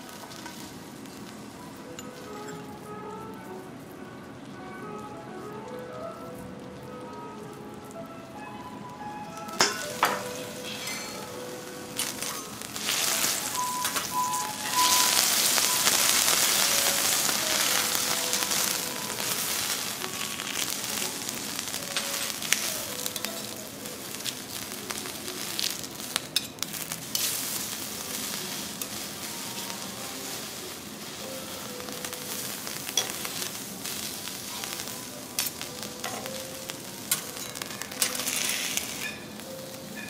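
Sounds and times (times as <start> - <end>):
food sizzling on a griddle: 0.0 - 40.0.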